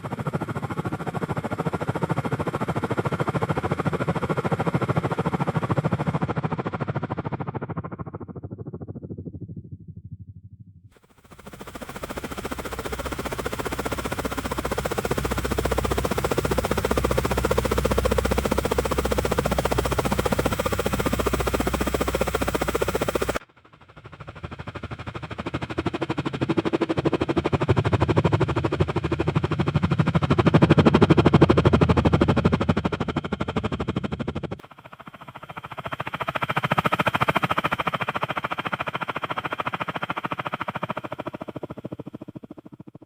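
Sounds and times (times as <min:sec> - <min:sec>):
helicopter rotor chop: 0:00.0 - 0:09.7, 0:11.0 - 0:43.0.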